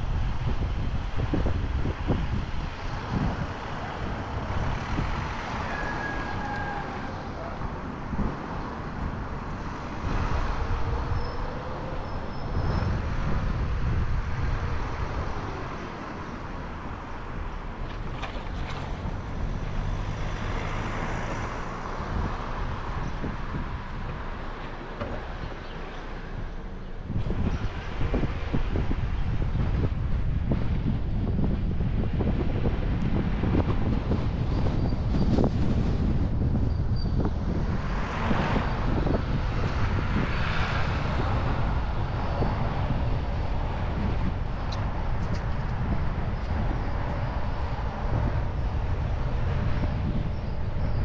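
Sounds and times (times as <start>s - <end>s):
car engine hum: 0.0s - 51.0s
tyre and road noise: 0.0s - 51.0s
wind buffeting microphone: 0.0s - 51.0s.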